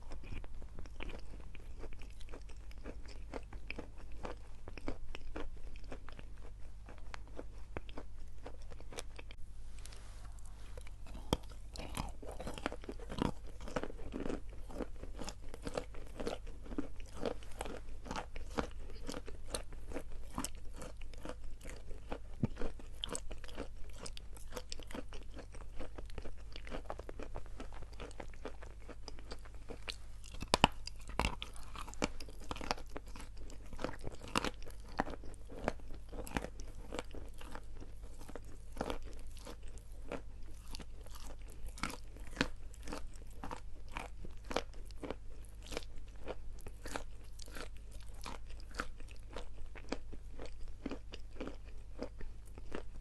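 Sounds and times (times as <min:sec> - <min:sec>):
chalk being chewed: 0:00.0 - 0:52.9.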